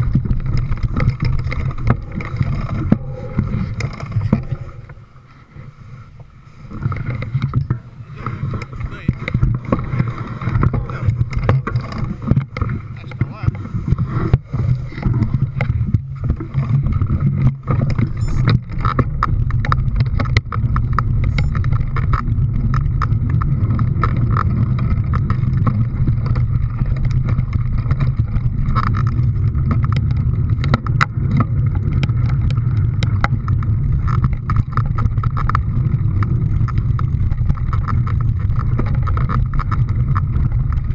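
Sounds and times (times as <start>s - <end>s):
engine running: 6.7s - 40.9s.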